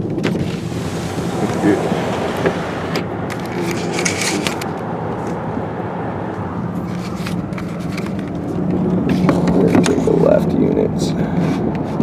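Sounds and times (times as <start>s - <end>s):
car engine and road hum: 0.0s - 10.3s.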